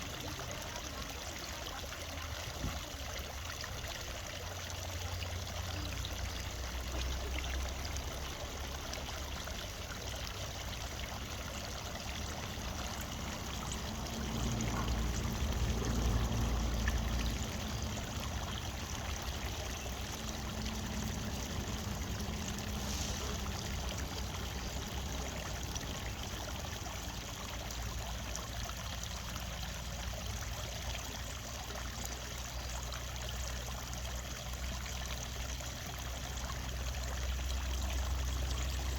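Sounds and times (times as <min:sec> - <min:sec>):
fountain water trickling: 0:00.0 - 0:38.9.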